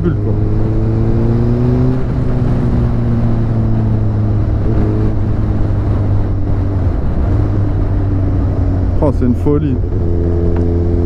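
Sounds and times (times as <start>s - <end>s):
motorcycle engine cruising: 0.0s - 11.0s
wind noise on microphone: 0.0s - 11.0s.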